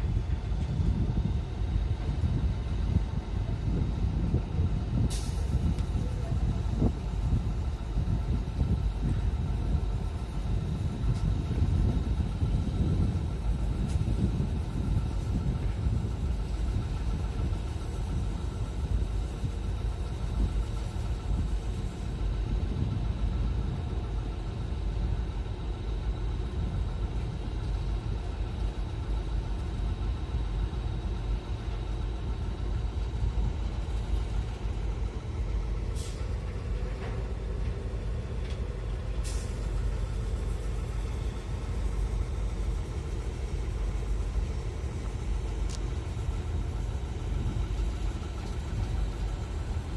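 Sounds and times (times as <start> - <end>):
boat diesel engine rumbling: 0.0 - 49.9.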